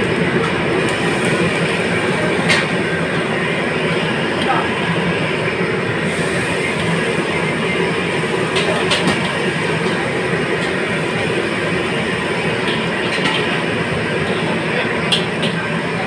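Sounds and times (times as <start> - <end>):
wok burner and exhaust hood roar: 0.0 - 16.0.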